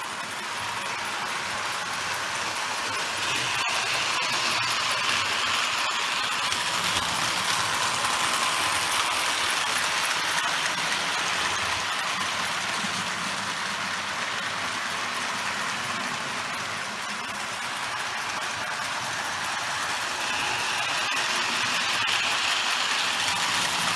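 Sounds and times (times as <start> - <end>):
model train motor whirring: 0.0 - 23.9.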